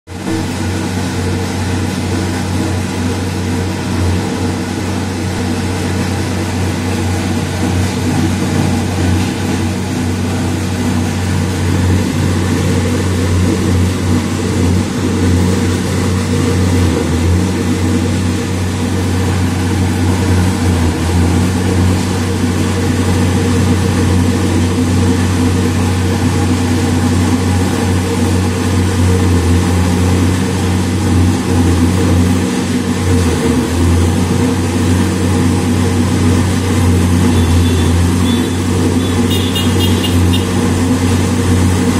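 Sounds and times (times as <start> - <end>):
heavy engine droning: 0.1 - 41.9.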